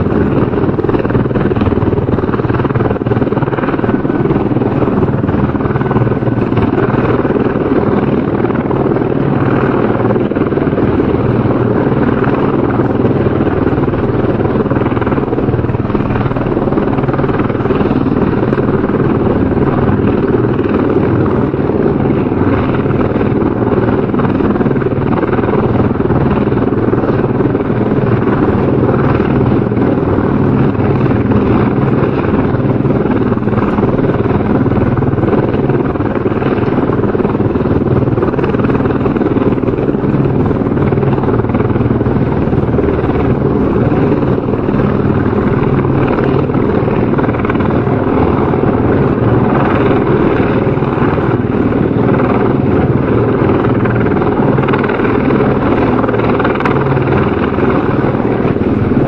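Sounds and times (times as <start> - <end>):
helicopter running: 0.0 - 59.0.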